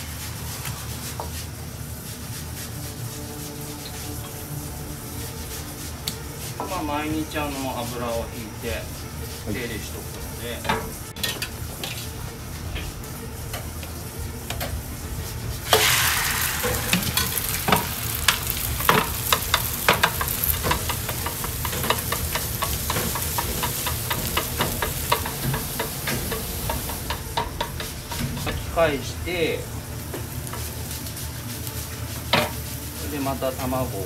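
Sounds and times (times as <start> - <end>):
chopsticks scraping a pan: 0.0 - 34.0
egg sizzling in a pan: 0.0 - 34.0.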